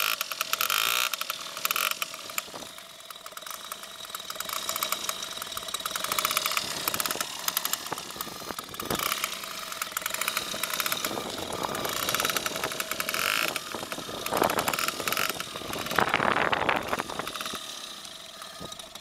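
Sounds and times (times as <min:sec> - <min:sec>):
moped engine idling: 0:00.0 - 0:19.0.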